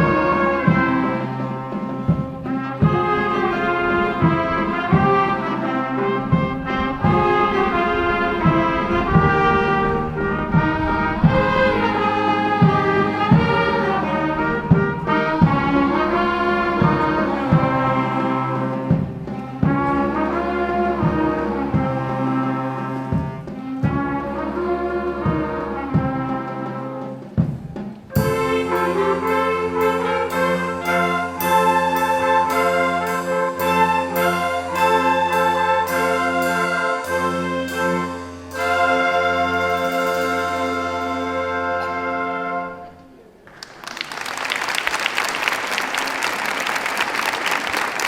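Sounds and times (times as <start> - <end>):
brass band playing: 0.0 - 43.4, 44.3 - 48.0.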